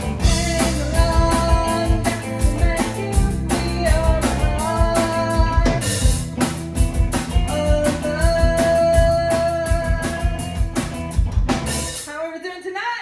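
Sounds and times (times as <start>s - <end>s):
drum kit beat: 0.0s - 12.2s.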